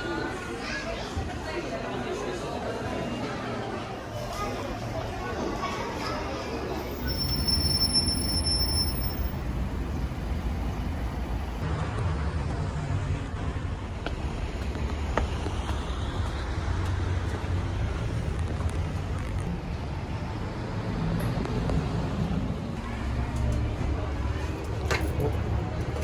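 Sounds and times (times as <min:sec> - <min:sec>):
low rumble of road vehicles: 0:02.7 - 0:26.0.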